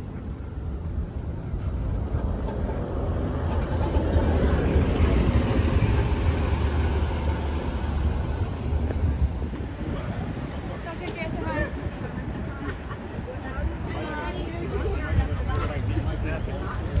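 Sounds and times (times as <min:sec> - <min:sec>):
bus passing: 0:00.0 - 0:17.0
city street traffic: 0:00.0 - 0:17.0.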